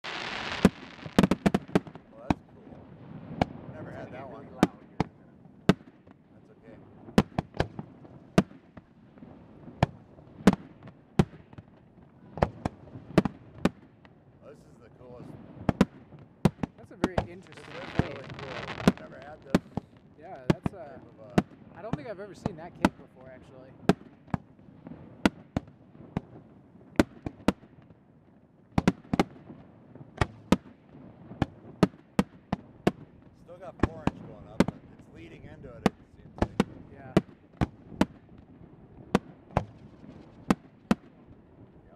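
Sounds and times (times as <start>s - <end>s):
fireworks launching and bursting: 0.0s - 14.1s, 15.2s - 28.0s, 28.7s - 41.9s.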